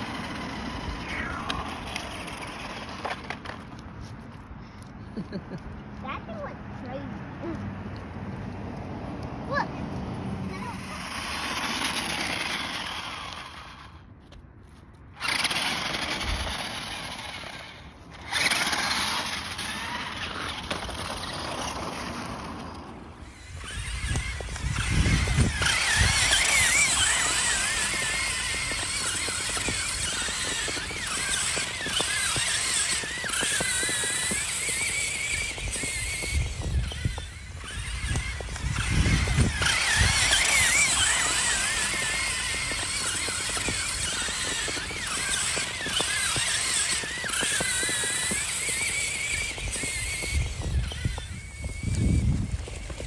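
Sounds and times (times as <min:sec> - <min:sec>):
toy car electric motors whining: 0:00.0 - 0:07.7, 0:08.7 - 0:53.0.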